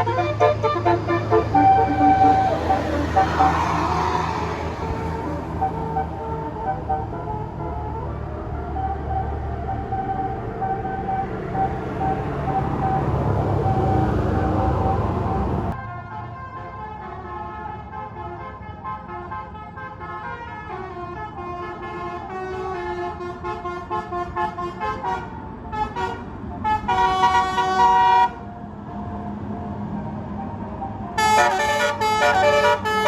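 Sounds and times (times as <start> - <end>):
musical bus air horn tune: 0.0 - 28.4, 31.2 - 33.0
loud vehicle noise: 0.0 - 33.0.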